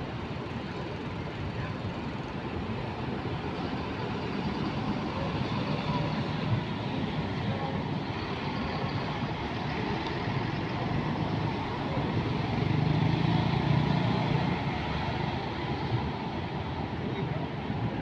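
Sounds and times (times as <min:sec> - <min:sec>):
diesel bus engine: 0:00.0 - 0:18.0
terminal engine noise: 0:00.0 - 0:18.0.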